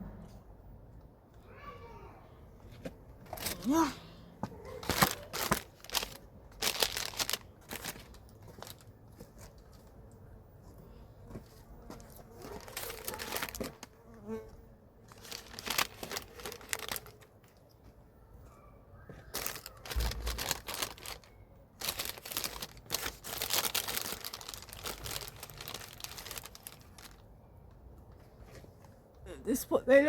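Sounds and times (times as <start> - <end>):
rustling and crinkling handling: 2.6 - 29.2.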